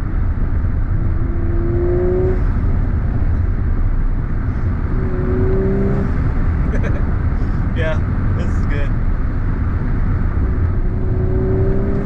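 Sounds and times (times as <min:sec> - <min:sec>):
engine and road rumble: 0:00.0 - 0:12.0
rising engine whine: 0:00.0 - 0:12.0.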